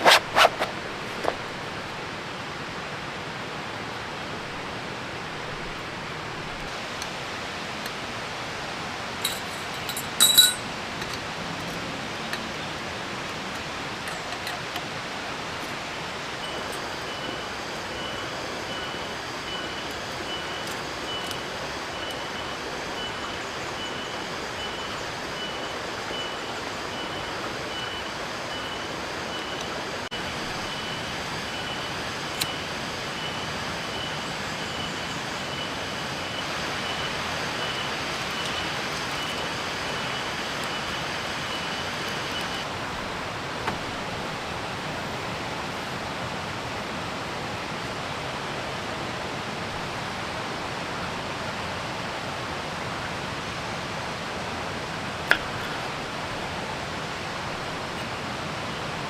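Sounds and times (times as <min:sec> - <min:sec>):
rain: 0:00.0 - 0:59.0.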